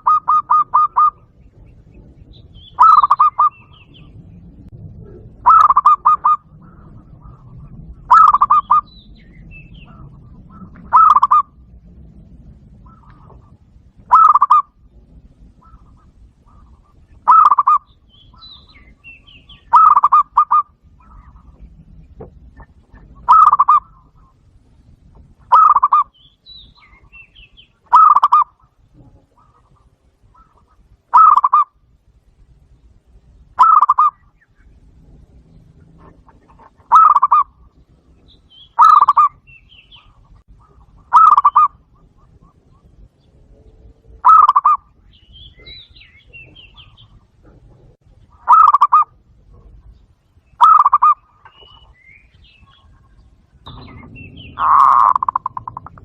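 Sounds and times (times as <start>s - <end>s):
dove cooing: 0.0s - 4.2s, 4.9s - 11.8s, 12.7s - 24.5s, 25.4s - 26.1s, 26.8s - 31.8s, 33.6s - 34.3s, 35.3s - 50.0s, 50.6s - 52.0s, 52.6s - 56.0s
faint bird chirps: 0.0s - 11.5s, 12.8s - 56.0s.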